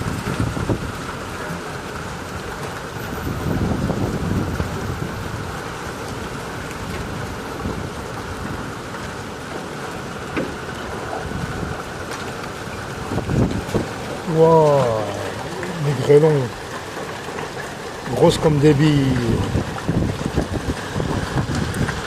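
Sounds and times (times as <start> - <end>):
low thunder rumble: 0.0 - 9.7, 12.7 - 18.7, 19.3 - 22.0
heavy rain downpour: 0.0 - 22.0.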